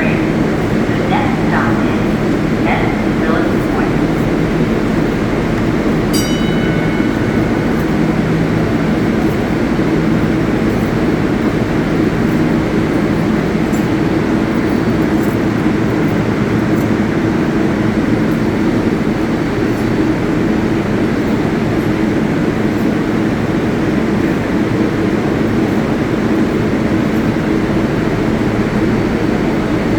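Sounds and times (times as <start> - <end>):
subway train rumble and hum: 0.0 - 29.9.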